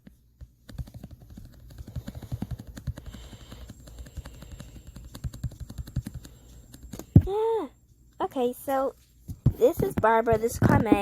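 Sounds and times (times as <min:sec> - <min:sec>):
rapid clicks and taps: 0:00.0 - 0:07.3, 0:09.3 - 0:11.0
steady low hum: 0:00.0 - 0:11.0.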